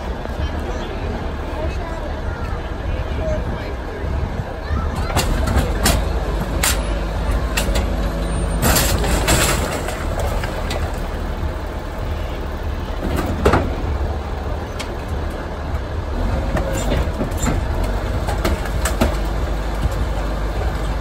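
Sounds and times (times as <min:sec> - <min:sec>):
garbage truck engine rumbling: 0:00.0 - 0:21.0.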